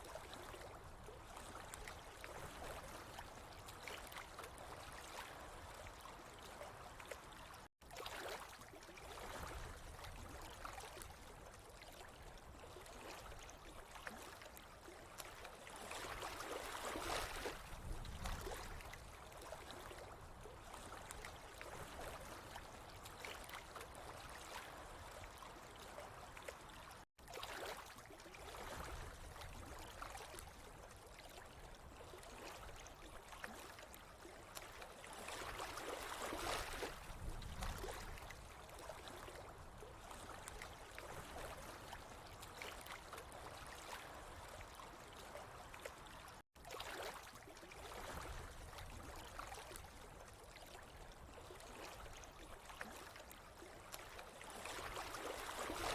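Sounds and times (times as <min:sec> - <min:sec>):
water trickling and gurgling: 0:00.0 - 0:55.9.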